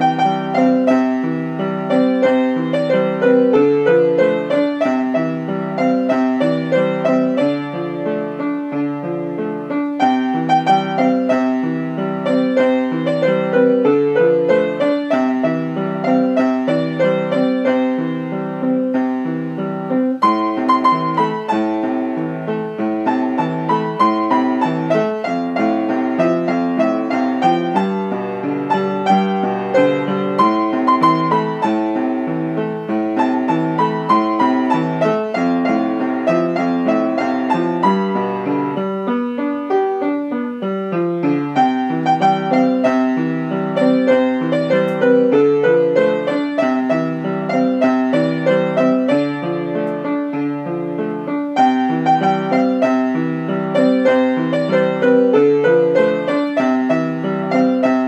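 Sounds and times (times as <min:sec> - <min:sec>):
piano piece: 0:00.0 - 0:58.0.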